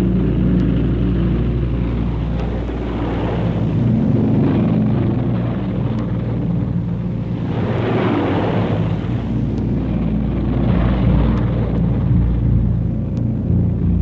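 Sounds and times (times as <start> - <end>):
piston aircraft engines droning: 0.0 - 14.0.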